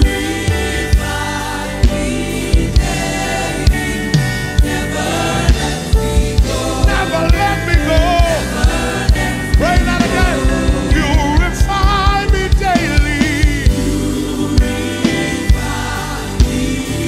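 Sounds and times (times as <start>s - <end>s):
drum beat: 0.0s - 17.0s.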